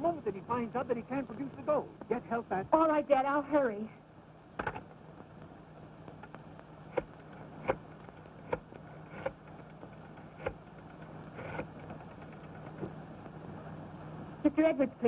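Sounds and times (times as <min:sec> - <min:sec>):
old film soundtrack hum and hiss: 0:00.0 - 0:15.0.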